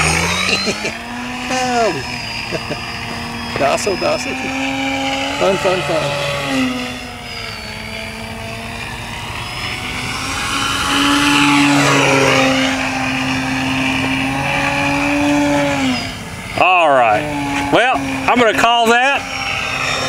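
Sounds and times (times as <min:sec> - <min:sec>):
model plane motor humming: 0:00.0 - 0:20.0.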